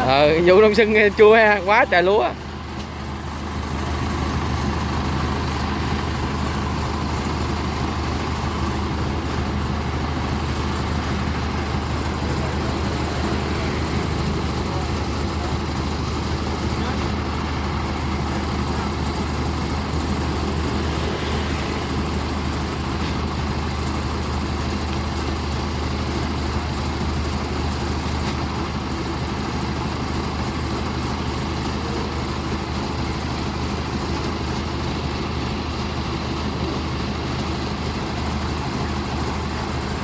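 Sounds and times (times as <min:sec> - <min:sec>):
diesel engine droning: 0:00.0 - 0:40.0.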